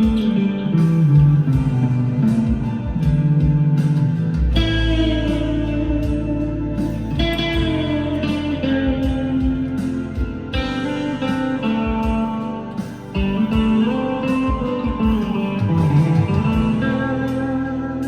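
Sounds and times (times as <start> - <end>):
clean electric guitar: 0.0 - 18.0.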